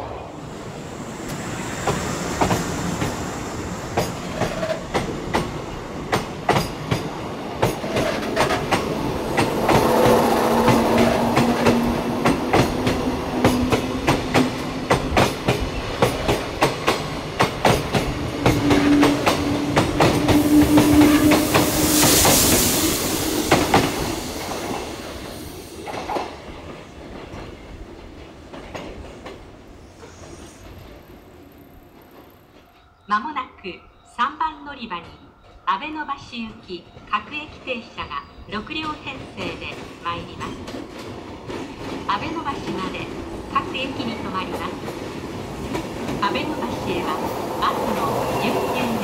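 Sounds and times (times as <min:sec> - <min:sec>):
train wheels clickety-clack: 0:01.2 - 0:31.2, 0:38.8 - 0:49.0.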